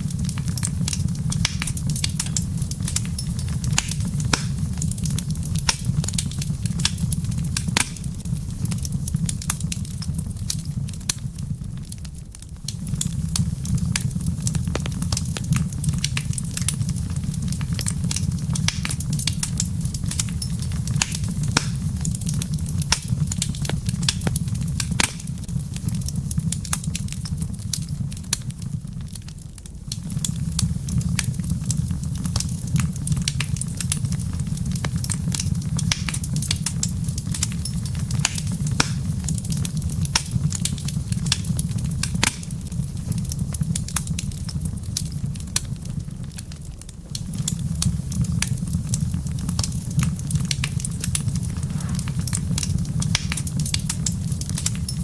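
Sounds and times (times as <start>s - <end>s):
fire crackling and popping: 0.0s - 55.0s
flames low rumble: 0.0s - 55.0s.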